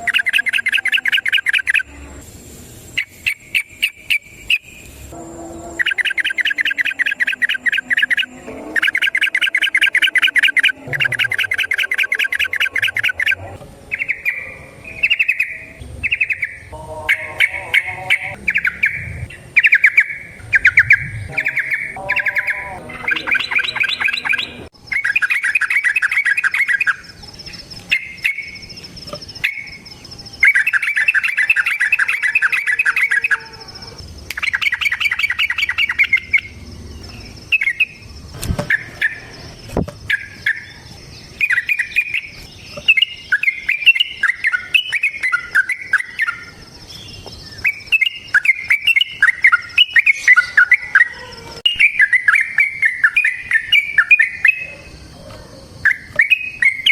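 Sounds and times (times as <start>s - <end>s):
bird singing: 0.0s - 56.9s.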